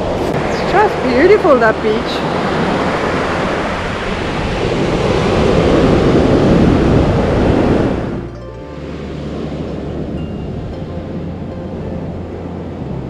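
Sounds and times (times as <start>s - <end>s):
ocean surf on sandy beach: 0.0s - 13.0s
wind rumbling on microphone: 0.0s - 13.0s.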